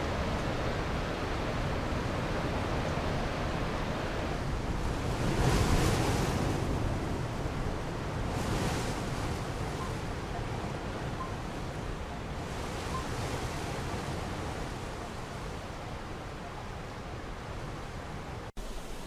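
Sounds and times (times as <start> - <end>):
wind blowing in gusts: 0.0 - 19.0.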